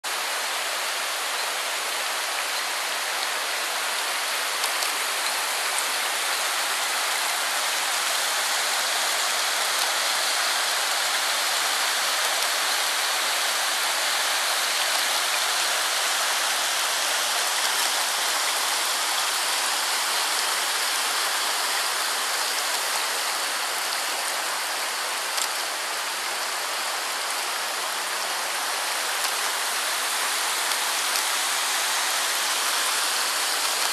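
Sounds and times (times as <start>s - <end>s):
stream rushing over boulders: 0.1s - 33.9s.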